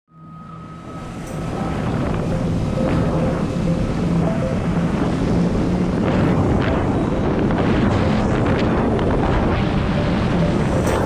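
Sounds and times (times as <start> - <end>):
jet ski engine running: 0.8 - 11.0
wind buffeting microphone: 1.0 - 11.0.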